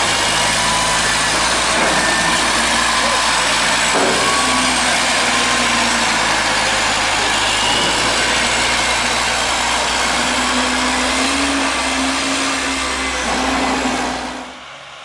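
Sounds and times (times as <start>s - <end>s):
dumping arm noise: 0.0s - 14.6s
garbage truck diesel engine: 0.0s - 15.0s.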